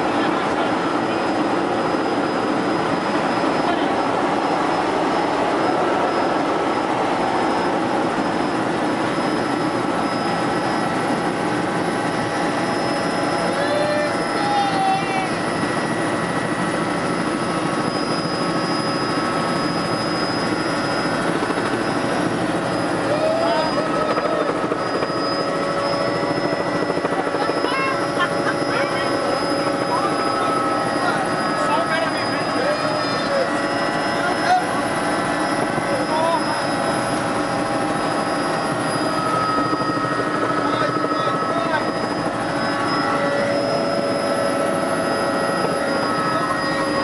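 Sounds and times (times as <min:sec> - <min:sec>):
helicopter engine and rotor noise: 0:00.0 - 0:47.0
high even whine: 0:00.0 - 0:47.0.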